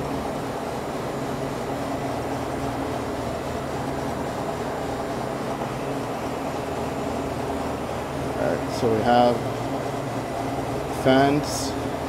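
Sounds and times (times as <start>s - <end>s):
refrigeration equipment humming: 0.0s - 12.0s.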